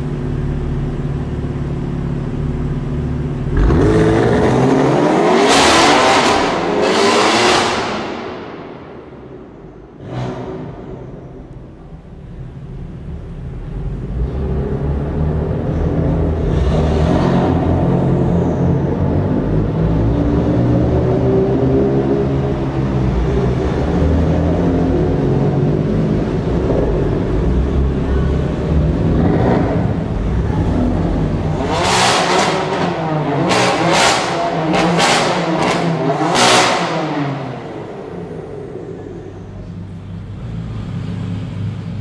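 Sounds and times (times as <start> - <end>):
car engines droning: 0.0 - 42.0
car engines revving hard: 3.3 - 11.8, 13.6 - 42.0.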